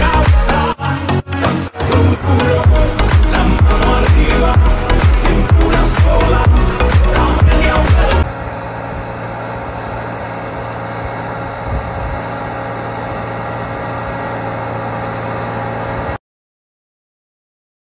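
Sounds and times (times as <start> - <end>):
tractor diesel engine running: 0.0 - 16.2.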